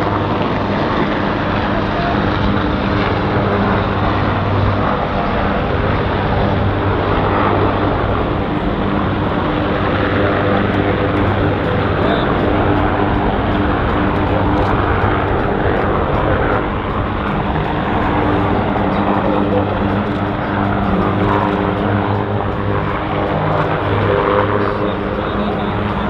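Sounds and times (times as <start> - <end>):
aircraft engines droning: 0.0 - 26.0.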